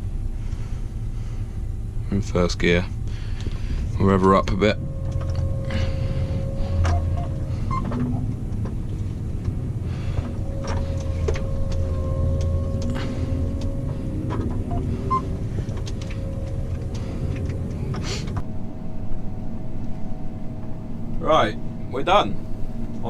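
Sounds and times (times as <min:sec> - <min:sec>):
combine harvester engine drone: 0:00.0 - 0:23.0
faint steady whine: 0:00.0 - 0:23.0.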